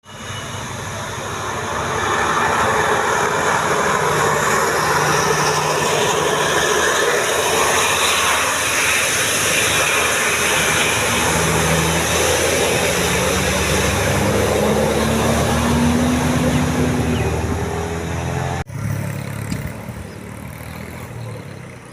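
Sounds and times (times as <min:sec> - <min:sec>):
bus engine: 0:00.0 - 0:21.9
road noise: 0:00.0 - 0:21.9.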